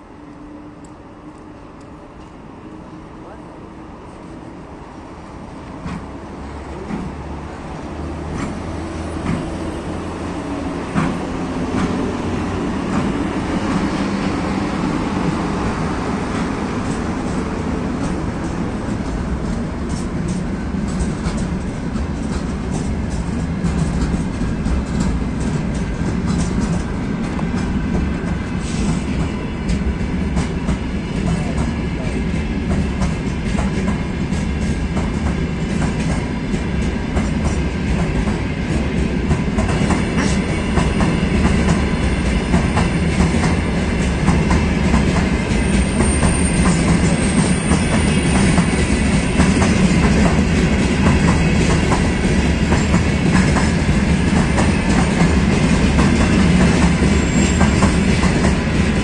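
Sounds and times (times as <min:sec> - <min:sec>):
freight train wheels clattering: 0:05.6 - 0:59.0.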